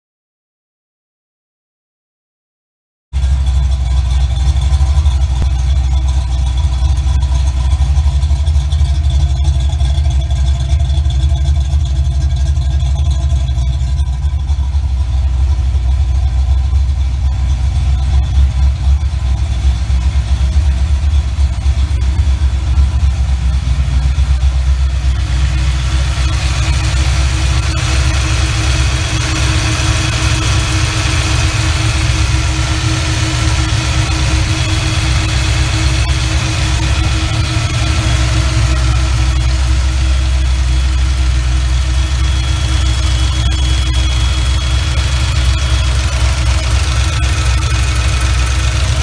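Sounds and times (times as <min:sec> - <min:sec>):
car engine idling: 0:03.2 - 0:49.0.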